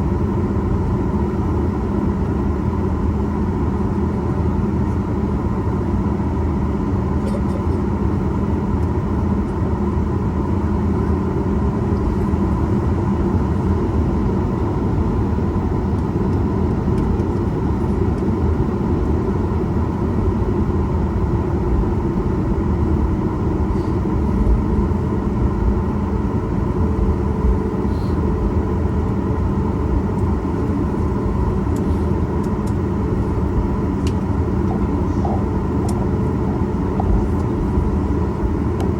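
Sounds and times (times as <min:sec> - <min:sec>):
aircraft cabin rumble: 0:00.0 - 0:38.9
engines and air conditioning hum: 0:00.0 - 0:38.9.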